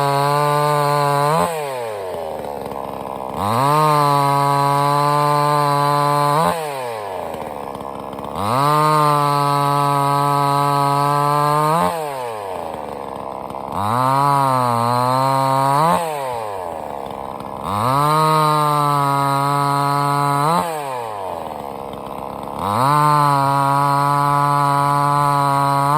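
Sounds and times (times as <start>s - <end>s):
chainsaw revving: 0.0s - 25.9s.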